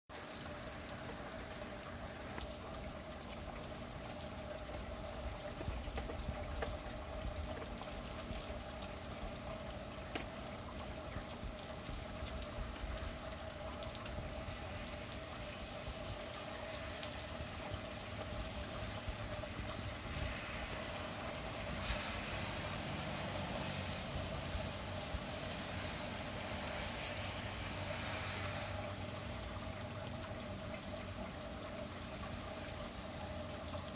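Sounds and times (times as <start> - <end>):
rain falling: 0.1 - 33.9
water trickling and pouring: 0.1 - 33.9.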